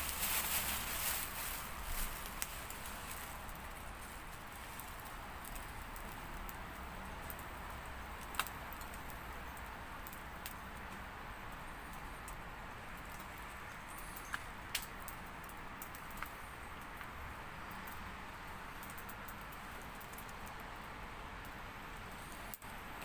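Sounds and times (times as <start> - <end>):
steady hiss: 0.0 - 23.0
wood fire crackling: 0.0 - 23.0.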